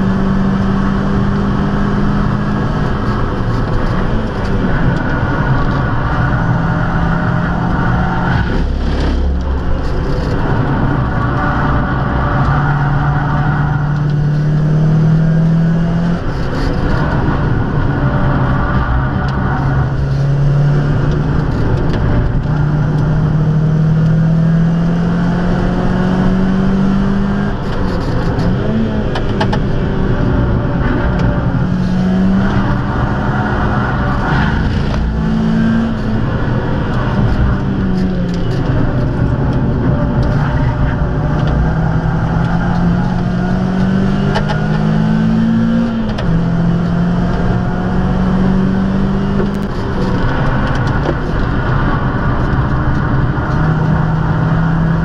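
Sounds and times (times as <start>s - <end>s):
car engine revving in cabin: 0.0s - 55.0s.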